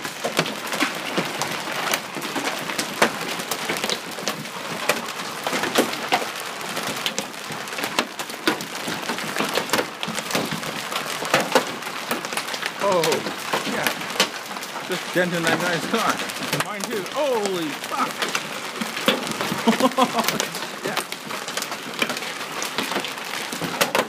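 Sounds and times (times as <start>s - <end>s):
hailstones clacking on cars and wood: 0.0s - 24.0s
hailstones hissing down: 0.0s - 24.0s.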